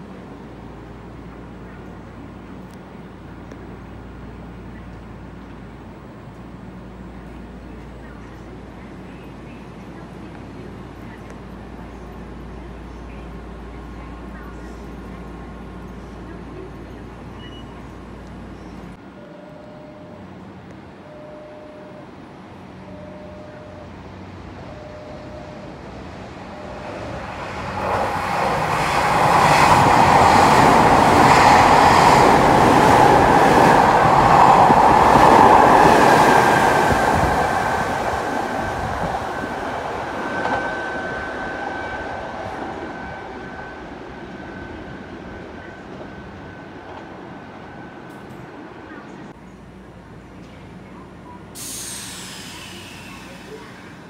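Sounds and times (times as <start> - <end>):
electric train passing: 0.0 - 54.0.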